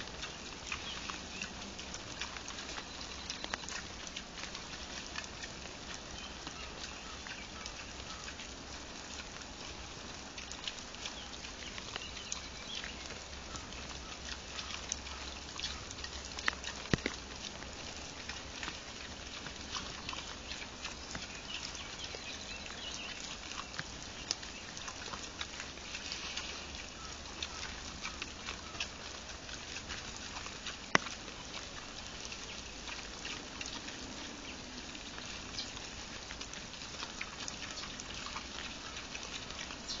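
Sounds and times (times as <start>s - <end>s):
boar crunching maize: 0.0s - 40.0s.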